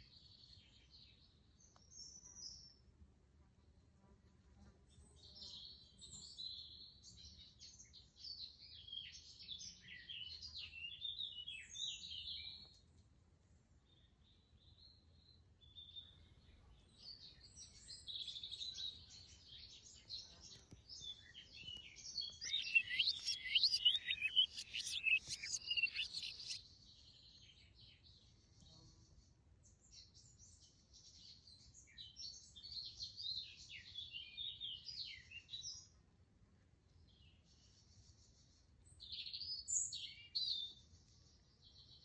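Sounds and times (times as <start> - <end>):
songbirds chirping and trilling: 4.9 - 36.1, 36.7 - 42.0.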